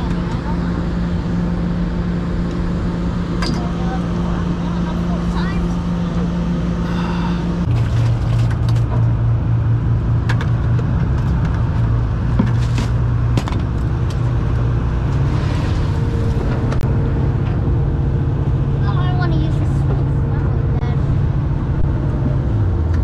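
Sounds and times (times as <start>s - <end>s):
boat engines droning: 0.0s - 23.0s.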